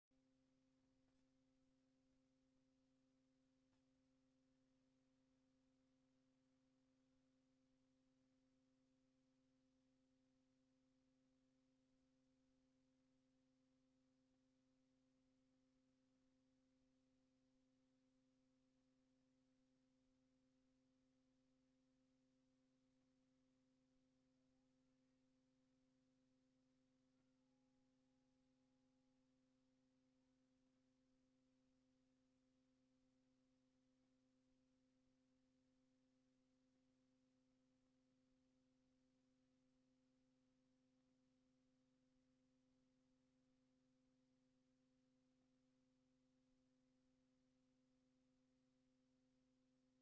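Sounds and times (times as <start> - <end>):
faint steady hum: 0.2 - 44.6.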